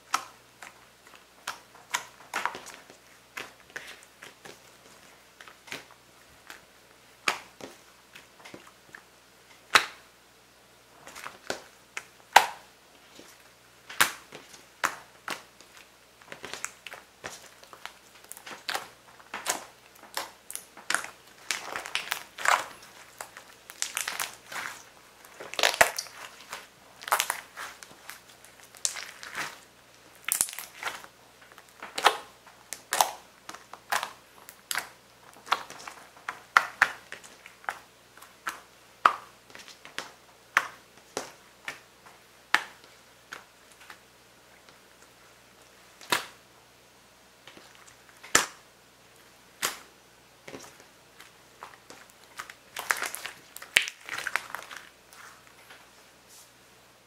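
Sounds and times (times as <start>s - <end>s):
slime squelching and popping: 0.0s - 10.0s, 11.0s - 41.9s, 49.6s - 55.2s.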